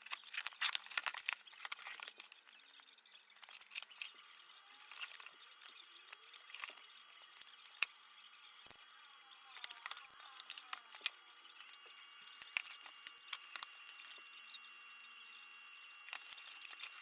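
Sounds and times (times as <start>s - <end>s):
small hard objects clinking: 0.0s - 8.0s, 9.5s - 15.2s, 16.0s - 17.0s.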